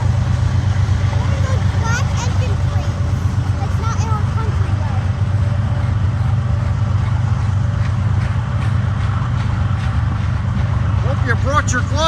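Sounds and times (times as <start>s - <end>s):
freight train rumbling past: 0.0s - 12.0s
wheels clicking over rail joints: 0.0s - 12.0s.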